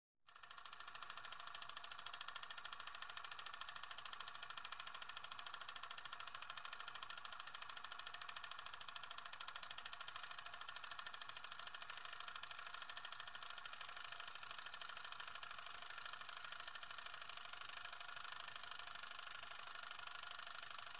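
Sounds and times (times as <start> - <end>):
film projector clicking: 0.3 - 20.9.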